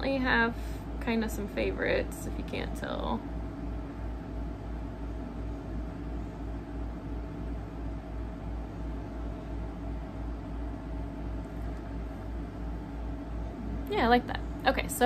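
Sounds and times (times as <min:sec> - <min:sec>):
low appliance hum with hiss: 0:00.0 - 0:15.0.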